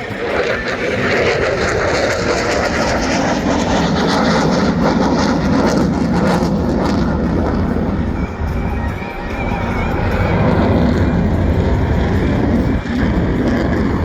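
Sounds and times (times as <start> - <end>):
deep rumble: 0.0 - 14.0
fighter jet roar: 0.0 - 14.0.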